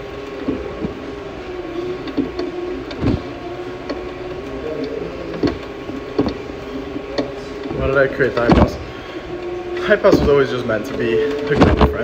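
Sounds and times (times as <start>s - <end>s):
exercise bike whirring: 0.0s - 12.0s.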